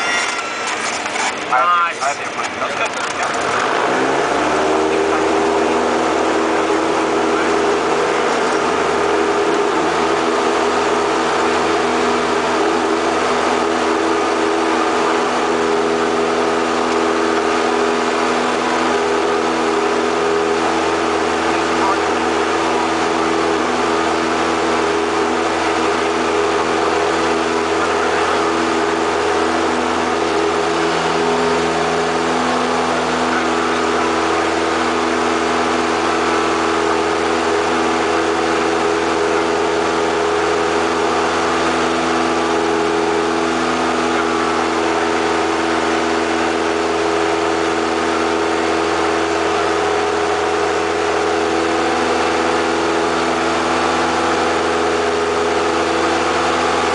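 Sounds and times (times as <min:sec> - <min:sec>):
light airplane engine drone: 0:00.0 - 0:13.6, 0:16.1 - 0:56.9.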